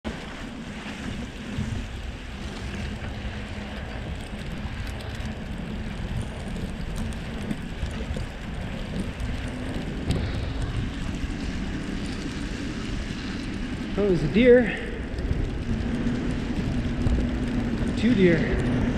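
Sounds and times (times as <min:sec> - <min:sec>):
bicycle tyres rolling on snow: 0:00.0 - 0:18.9
wind noise on microphone: 0:00.0 - 0:18.9.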